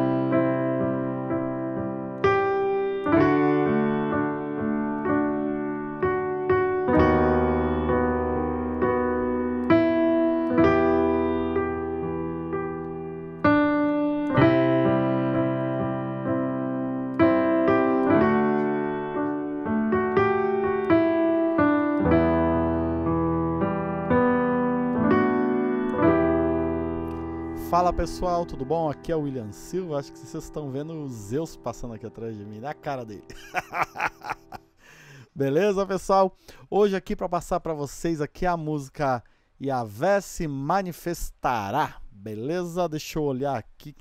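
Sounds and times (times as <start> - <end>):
slow piano chords: 0.0 - 35.8.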